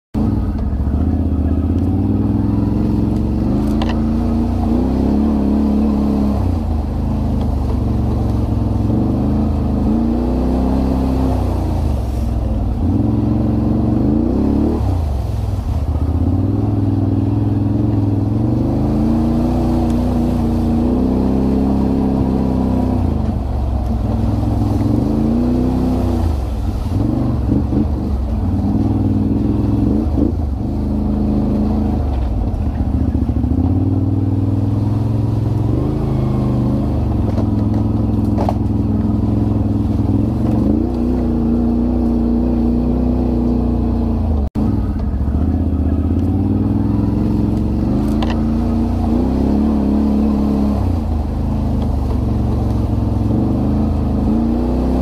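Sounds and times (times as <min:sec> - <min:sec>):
atv engine revving: 0:00.2 - 0:55.0.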